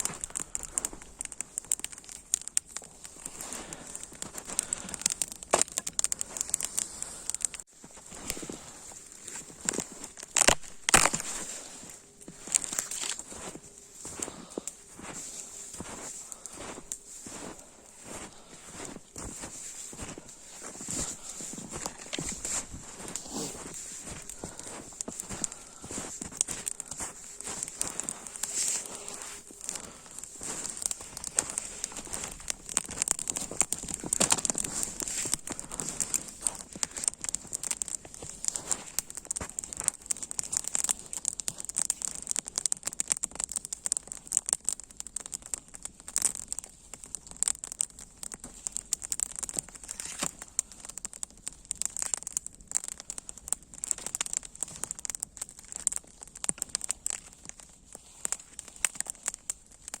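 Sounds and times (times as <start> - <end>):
dense irregular crackling: 0.0 - 60.0.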